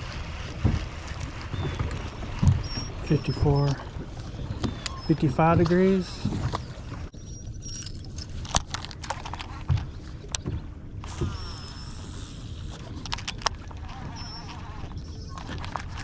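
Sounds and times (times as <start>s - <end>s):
clicks and knocks from boat: 0.0s - 7.1s, 7.7s - 11.7s, 12.4s - 16.0s
boat motor running: 0.0s - 16.0s.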